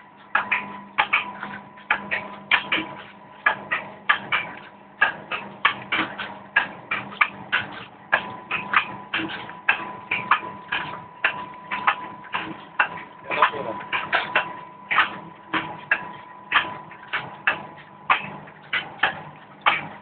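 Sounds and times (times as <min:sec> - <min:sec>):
motor hum: 0:00.0 - 0:20.0
packing machine clacking: 0:00.4 - 0:20.0.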